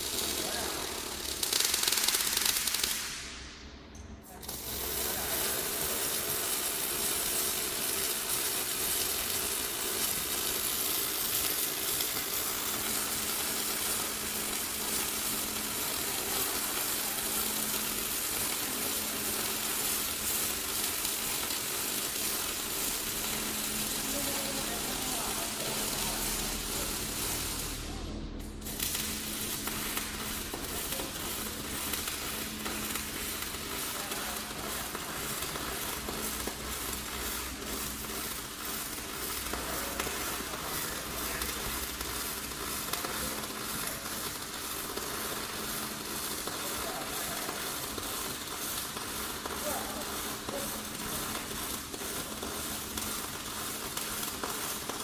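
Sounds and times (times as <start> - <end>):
welding arc crackling hiss: 0.0 - 55.0.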